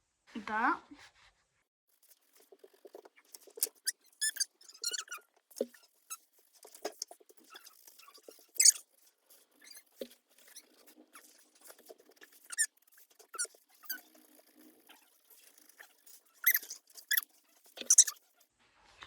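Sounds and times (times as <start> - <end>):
pencil scratching on paper: 1.2 - 18.5.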